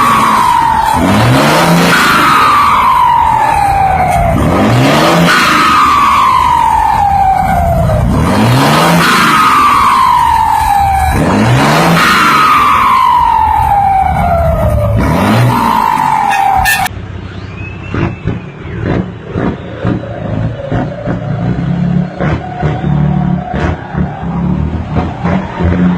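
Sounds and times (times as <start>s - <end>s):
truck diesel engine revving: 0.0s - 25.9s
turbocharger whistle: 0.0s - 25.9s.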